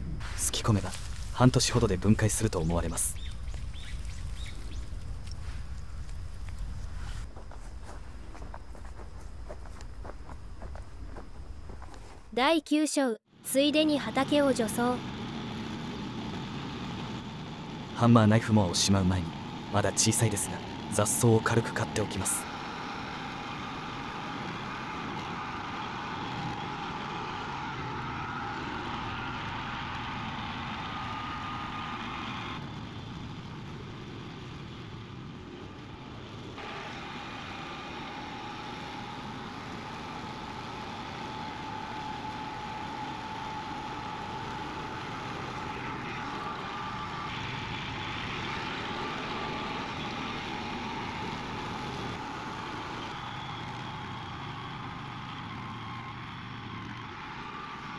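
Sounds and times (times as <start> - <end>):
mower engine running: 0.0 - 12.3, 13.6 - 57.9
steady whine: 0.0 - 12.5, 13.3 - 57.9.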